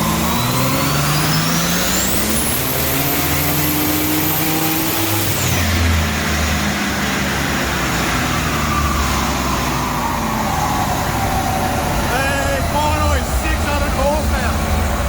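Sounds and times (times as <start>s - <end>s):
car engine running on a dyno: 0.0s - 15.0s
engine whine: 0.0s - 15.0s.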